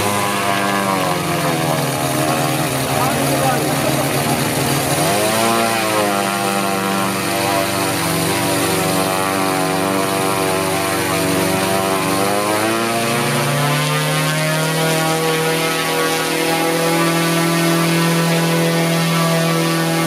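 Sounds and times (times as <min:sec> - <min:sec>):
model radial engine running: 0:00.0 - 0:20.0.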